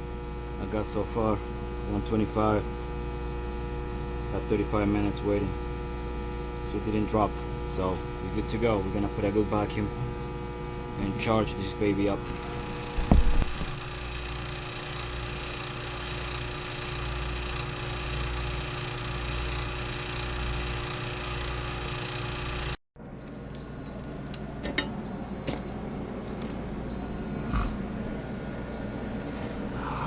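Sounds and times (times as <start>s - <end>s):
vacuum pump running: 0.0s - 30.0s.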